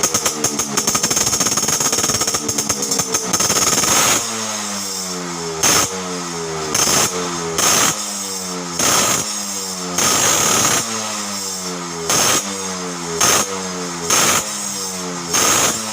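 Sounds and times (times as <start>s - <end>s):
two-stroke motorcycle throttle blips: 0.0s - 15.9s.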